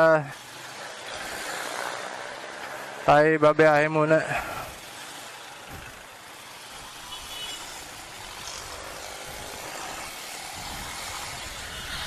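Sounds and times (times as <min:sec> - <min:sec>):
passing vehicle engines: 0:00.0 - 0:12.0.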